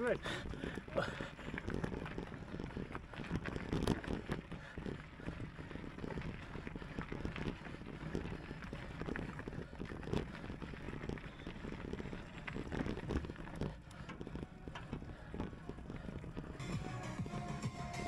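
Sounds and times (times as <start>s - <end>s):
bike tyres crunching and rattling: 0.0s - 17.4s.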